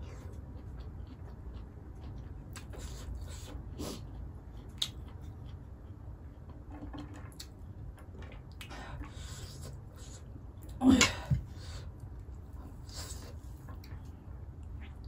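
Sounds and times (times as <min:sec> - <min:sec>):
chewing: 0:00.0 - 0:10.8, 0:12.0 - 0:15.0
steady low hum: 0:00.0 - 0:15.0.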